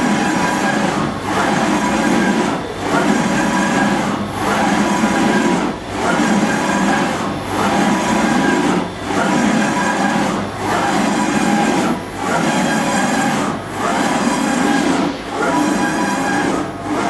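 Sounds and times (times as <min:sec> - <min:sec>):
surface grinder grinding: 0:00.0 - 0:17.0.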